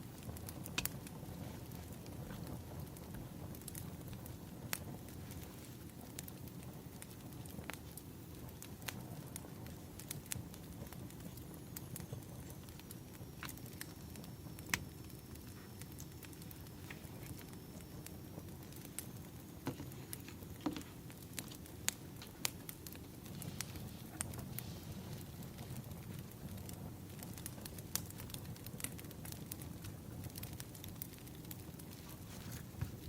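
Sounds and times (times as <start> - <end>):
fire rumbling: 0.0 - 33.0
firewood popping and snapping: 0.1 - 33.0.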